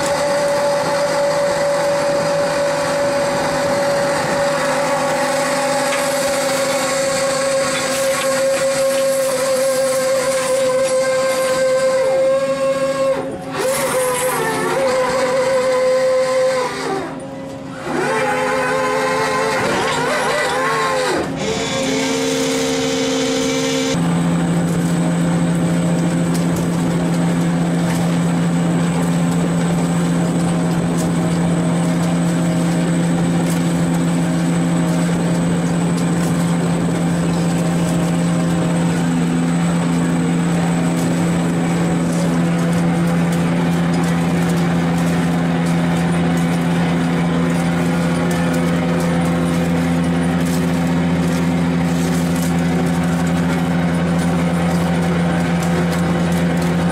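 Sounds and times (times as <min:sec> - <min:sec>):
boat engine droning: 0:00.0 - 0:56.9.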